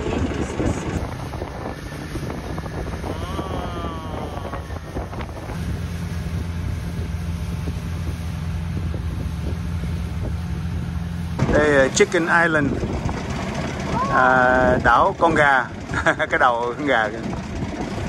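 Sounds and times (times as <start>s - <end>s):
boat engine running: 0.0s - 18.0s
wind buffeting microphone: 0.0s - 18.0s.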